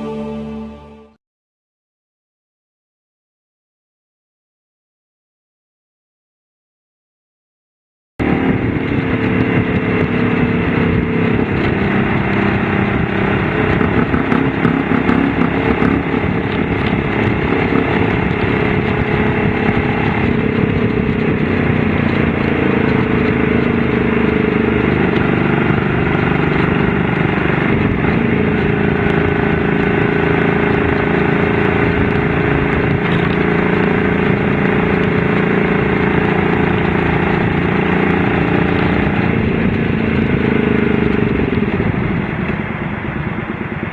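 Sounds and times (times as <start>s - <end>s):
motorcycle engine running: 8.2s - 43.9s.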